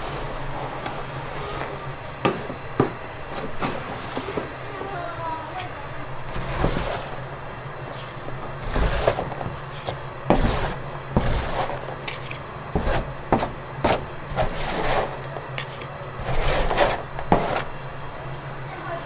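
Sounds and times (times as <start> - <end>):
metal scrapers on metal table: 0.0 - 17.8.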